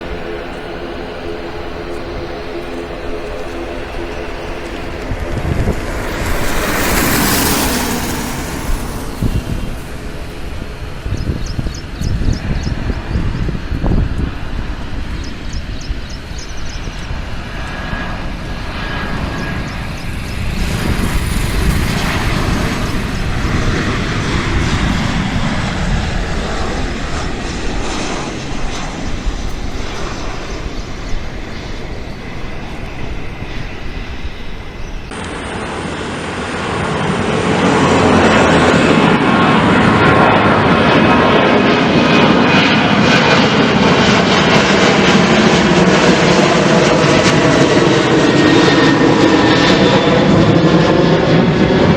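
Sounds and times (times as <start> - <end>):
jet engine whine: 0.0 - 51.9
jet engines rumbling: 0.0 - 51.9.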